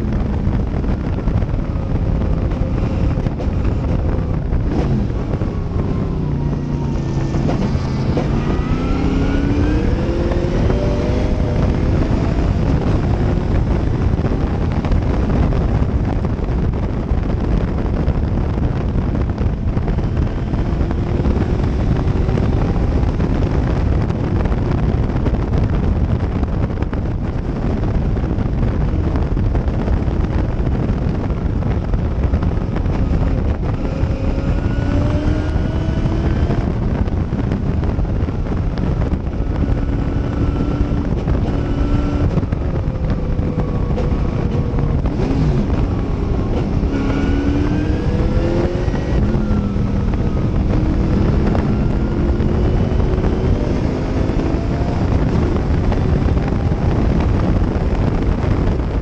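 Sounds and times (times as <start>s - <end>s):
heavy wind rush: 0.0s - 59.0s
race car engine at full throttle: 0.0s - 59.0s.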